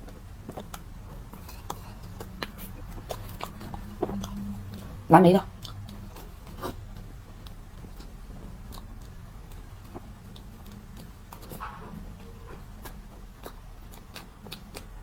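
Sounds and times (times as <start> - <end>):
close-up chewing: 0.0 - 15.0
mouth clicks: 0.0 - 15.0.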